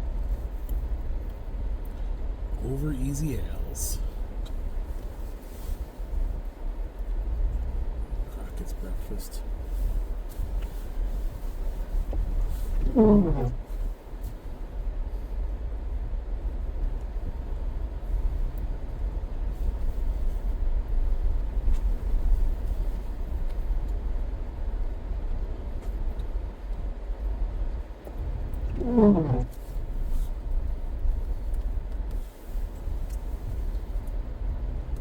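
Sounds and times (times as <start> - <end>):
car driving rumble inside cabin: 0.0 - 35.0.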